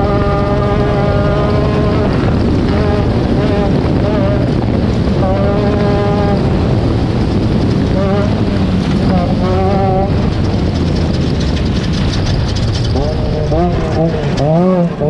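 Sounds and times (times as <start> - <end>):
heavy wind noise: 0.0 - 15.0
vehicle engine running hard: 0.0 - 15.0.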